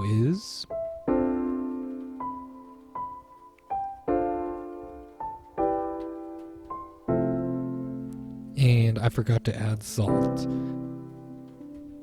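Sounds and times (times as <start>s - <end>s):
high piano notes: 0.0s - 12.0s
slow piano chords: 0.0s - 12.0s.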